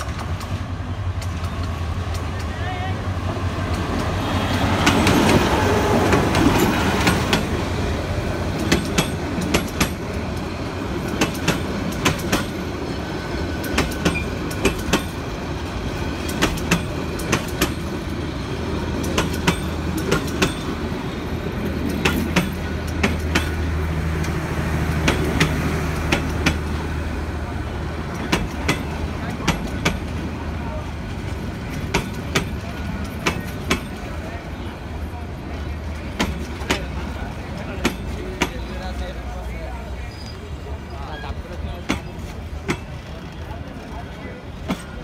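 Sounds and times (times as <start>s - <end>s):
wheels clacking over rail joints: 0.0s - 39.1s, 41.3s - 45.0s
diesel locomotive passing: 0.0s - 45.0s
train coaches humming: 0.0s - 45.0s.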